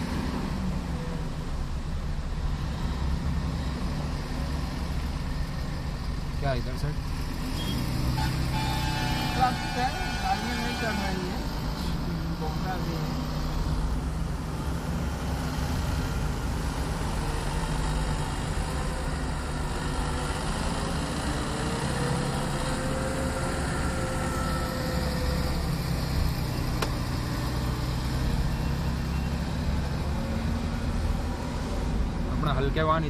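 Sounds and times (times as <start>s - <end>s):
car engine and road noise: 0.0s - 33.0s
surrounding traffic: 0.0s - 33.0s.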